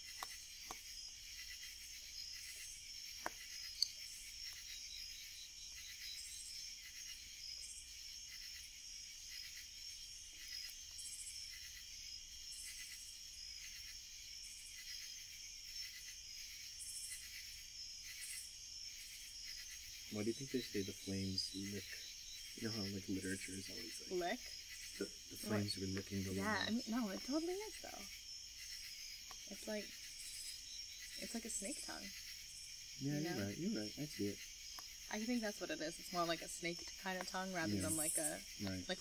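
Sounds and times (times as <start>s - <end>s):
crickets and night insects chirping: 0.0s - 39.0s.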